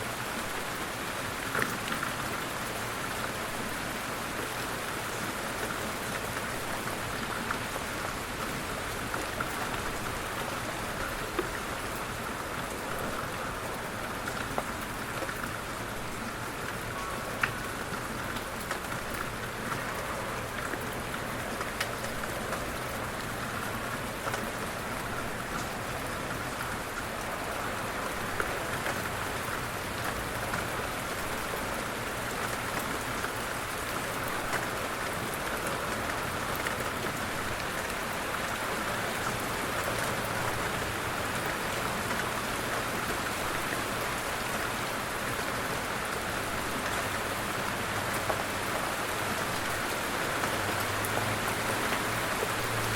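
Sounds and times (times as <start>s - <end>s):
light rain falling: 0.0s - 52.9s.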